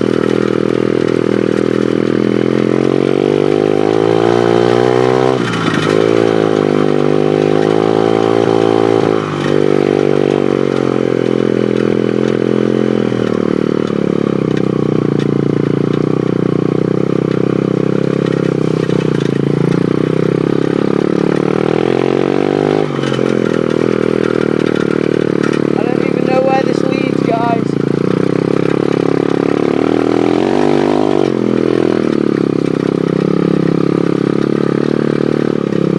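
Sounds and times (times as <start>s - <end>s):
small motorbike engine revving: 0.0s - 35.9s.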